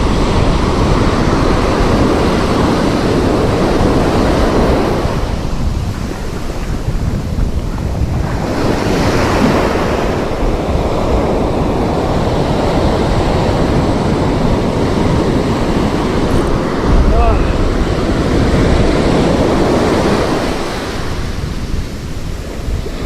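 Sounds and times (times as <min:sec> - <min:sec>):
ocean surf breaking on beach: 0:00.0 - 0:23.0
wind buffeting microphone: 0:00.0 - 0:23.0.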